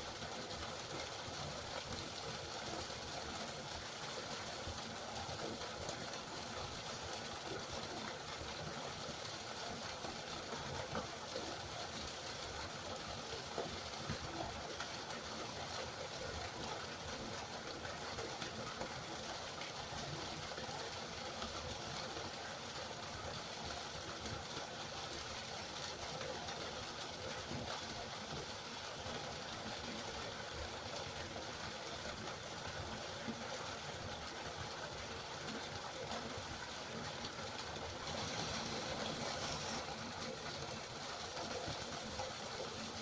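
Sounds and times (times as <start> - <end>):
river water flowing: 0.0 - 43.0.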